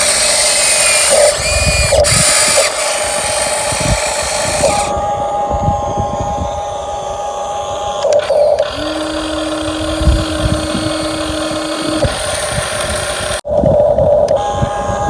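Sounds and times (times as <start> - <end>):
lower steady whine: 0.0 - 15.0
small electric motors whining: 0.0 - 15.0.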